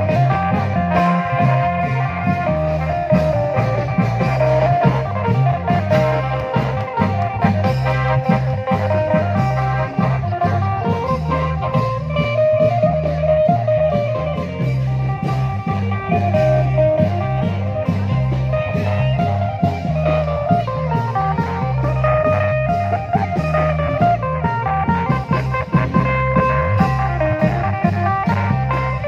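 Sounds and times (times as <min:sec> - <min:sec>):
bass line: 0:00.0 - 0:29.0
lead melody: 0:00.0 - 0:29.0
long drum beats: 0:00.0 - 0:29.0.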